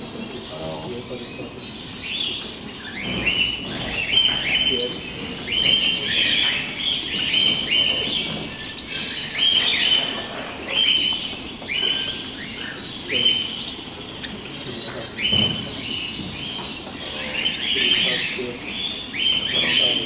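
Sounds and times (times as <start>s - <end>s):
canaries singing: 0.0s - 20.0s.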